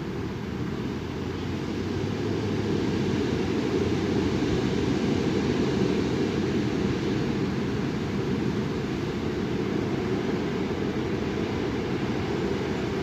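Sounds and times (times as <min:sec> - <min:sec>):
gusty wind on microphone: 0:00.0 - 0:13.0.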